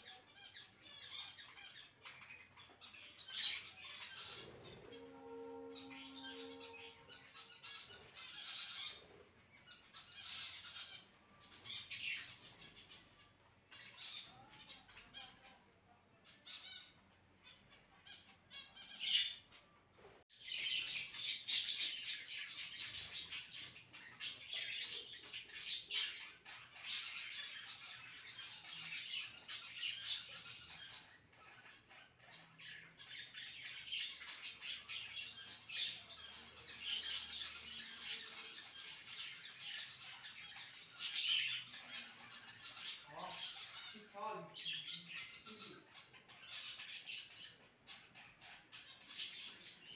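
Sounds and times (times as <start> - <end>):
budgerigars chattering and warbling: 0.0 - 5.0, 5.8 - 19.7, 20.4 - 49.9.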